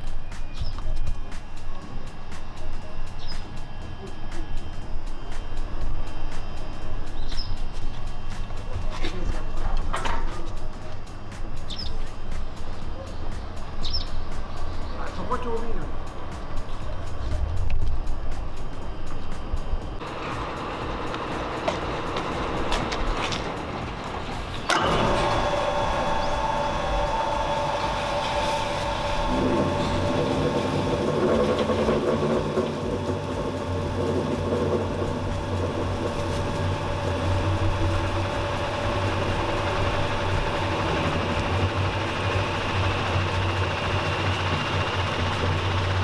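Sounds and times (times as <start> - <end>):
centrifuge mechanical whine: 0.0 - 46.0
low hum: 0.0 - 46.0.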